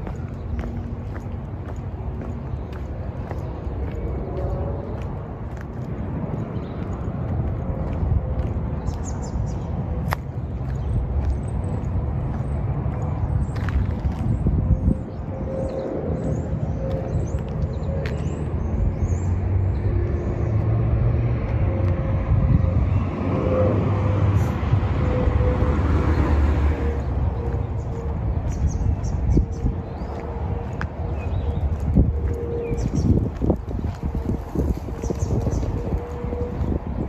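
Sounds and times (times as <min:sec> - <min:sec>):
footsteps while walking: 0:00.0 - 0:37.0
wind buffeting microphone: 0:00.0 - 0:37.0.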